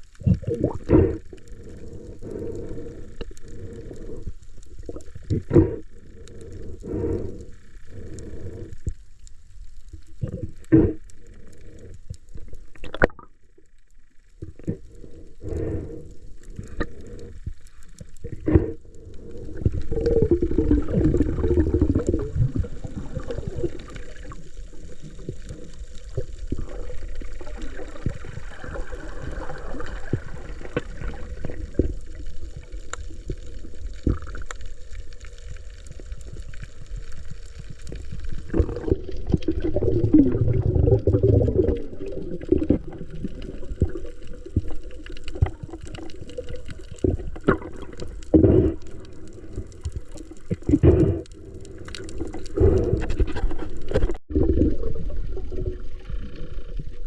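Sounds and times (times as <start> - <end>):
water sloshing and gurgling: 9.8 - 57.0.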